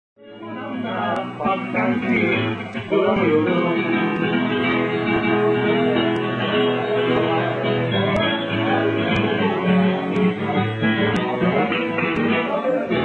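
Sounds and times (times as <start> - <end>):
strummed acoustic guitar: 0.2 - 13.0
live acoustic band music: 0.3 - 13.0.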